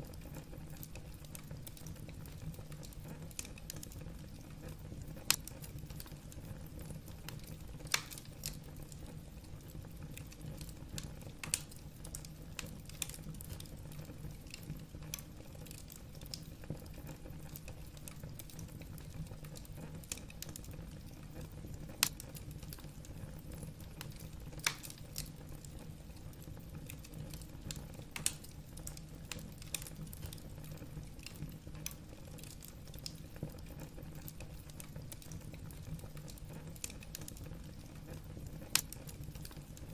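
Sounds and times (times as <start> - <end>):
fire rumble: 0.0 - 39.9
logs crackling and popping: 0.0 - 39.9.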